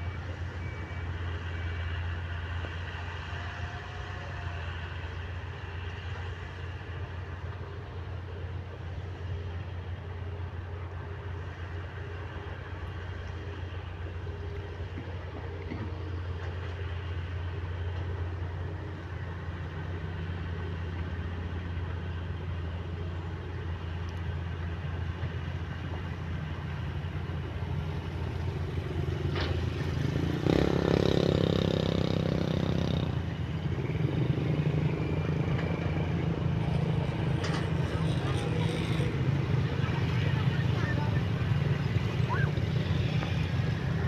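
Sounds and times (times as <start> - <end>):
heavy machine diesel engines: 0.0 - 44.0.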